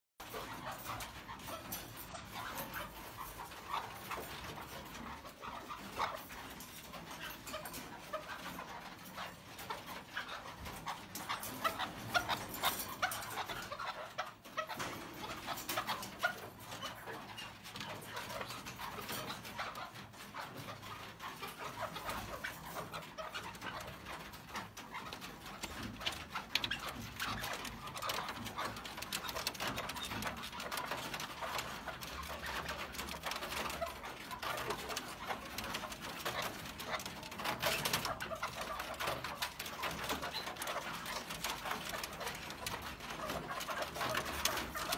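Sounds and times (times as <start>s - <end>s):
caged birds chirping: 0.2s - 44.9s.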